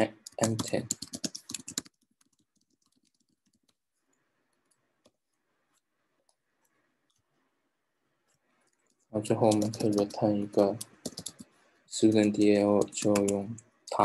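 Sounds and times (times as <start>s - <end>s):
faint keyboard typing: 0.0s - 7.4s, 8.2s - 14.0s.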